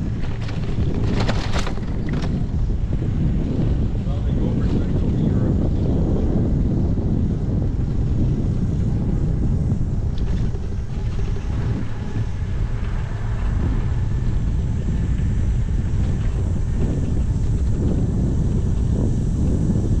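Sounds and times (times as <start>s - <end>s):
wind rumbling over microphone: 0.0s - 20.0s.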